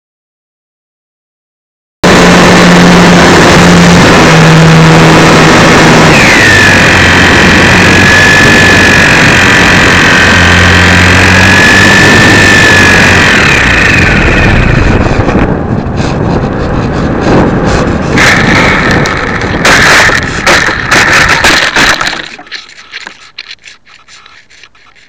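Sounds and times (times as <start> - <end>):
rushing noise: 2.0 - 22.9
electric motor whining: 2.0 - 25.0.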